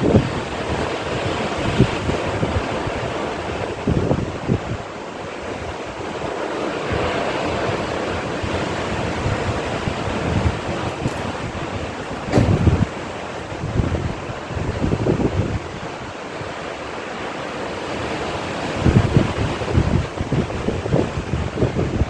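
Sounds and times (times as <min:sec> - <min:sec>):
strong wind: 0:00.0 - 0:22.0
wind buffeting microphone: 0:00.0 - 0:22.0.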